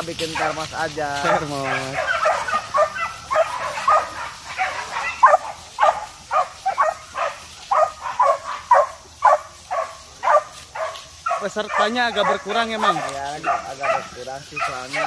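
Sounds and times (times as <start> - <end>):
young dogs yelping: 0.0 - 15.0.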